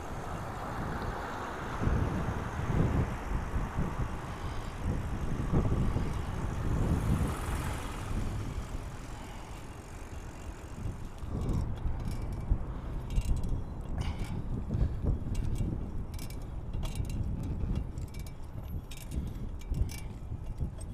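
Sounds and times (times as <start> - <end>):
road traffic rumble: 0.0 - 20.9
wind on microphone: 0.0 - 20.9.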